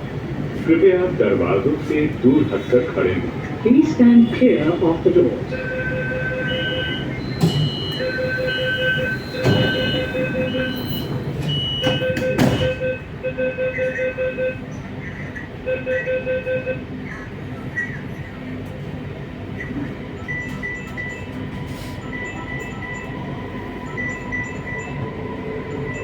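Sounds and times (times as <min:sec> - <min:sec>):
train running noise: 0:00.0 - 0:26.0
train door warning beeps: 0:01.8 - 0:17.0, 0:19.4 - 0:26.0.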